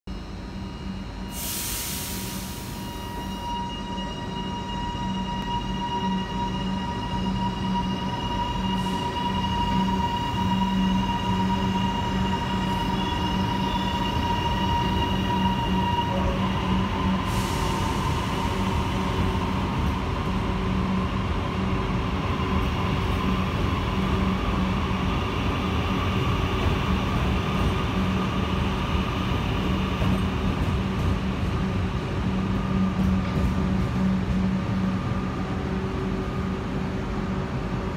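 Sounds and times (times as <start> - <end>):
electric train whine: 0.1 - 37.9.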